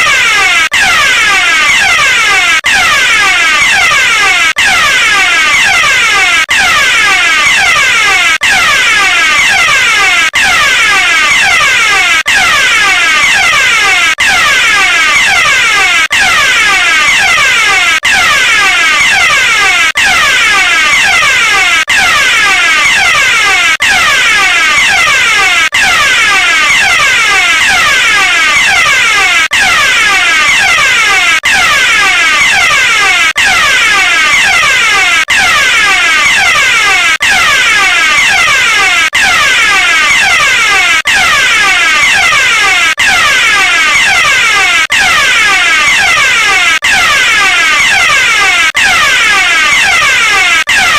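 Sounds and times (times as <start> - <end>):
electronic fire alarm: 0.0 - 50.9.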